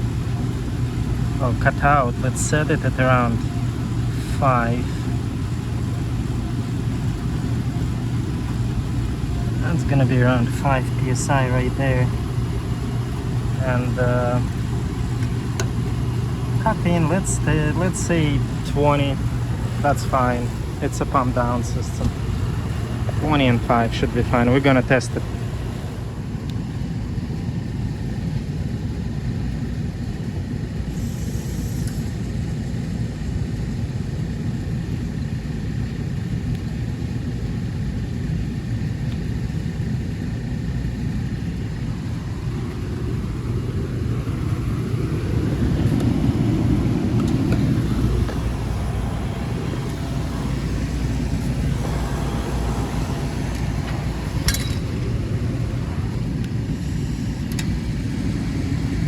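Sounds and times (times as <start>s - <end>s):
compressor low hum: 0.0s - 59.0s.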